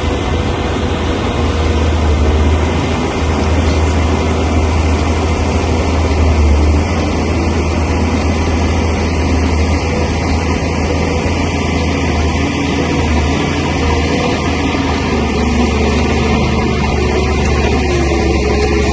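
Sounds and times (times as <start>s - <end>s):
bulldozer diesel engine droning: 0.0s - 18.9s.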